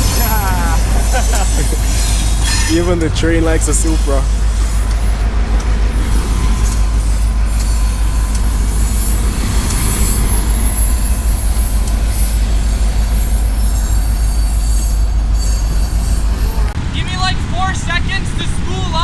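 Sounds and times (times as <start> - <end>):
train rumble: 0.0 - 19.0
train wheels squealing on rails: 0.0 - 19.0.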